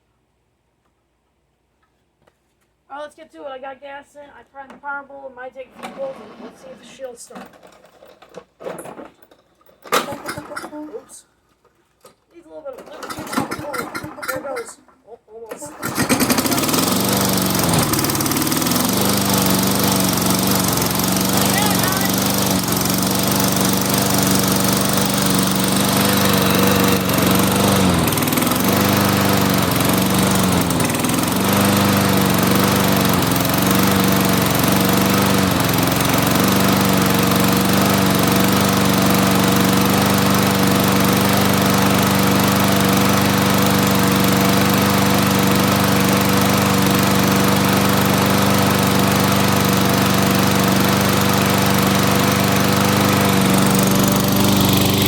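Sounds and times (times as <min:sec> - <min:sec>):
lawn mower engine running: 0:05.8 - 0:11.1, 0:11.7 - 0:55.0.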